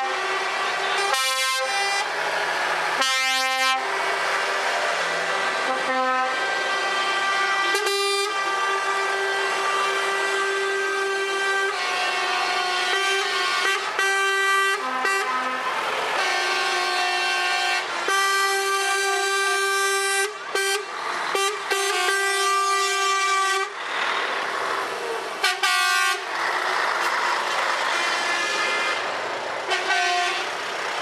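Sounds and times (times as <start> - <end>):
truck air horn blasts: 0.0 - 2.1, 3.0 - 3.9, 5.4 - 23.8, 25.4 - 26.3, 27.9 - 30.6
passing truck noise: 0.0 - 31.0.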